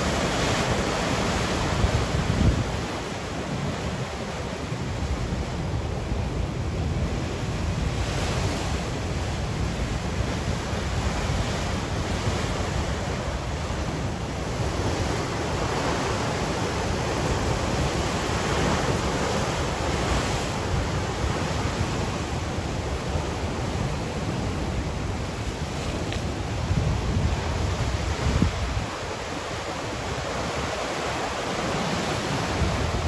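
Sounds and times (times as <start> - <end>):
waves breaking on beach: 0.0 - 33.0.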